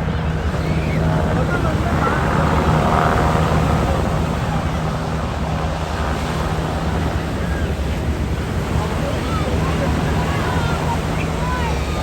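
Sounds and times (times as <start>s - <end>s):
faint distant voices: 0.0s - 12.0s
surf at the beach: 0.0s - 12.0s.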